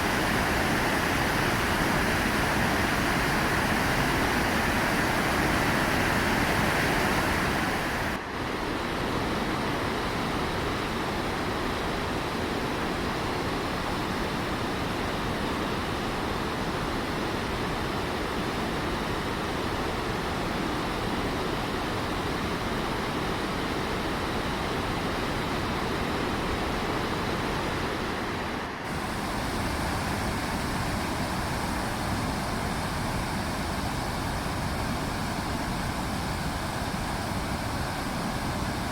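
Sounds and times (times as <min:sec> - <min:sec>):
waterfall roaring: 0:00.0 - 0:11.8, 0:16.3 - 0:38.9.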